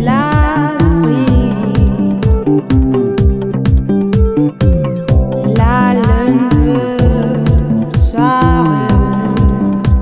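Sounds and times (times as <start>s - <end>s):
music with deep drum and bass: 0.0s - 10.0s.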